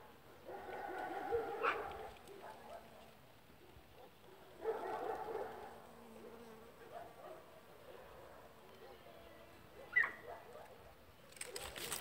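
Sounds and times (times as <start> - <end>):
dog barking: 0.3 - 9.1, 9.7 - 11.0.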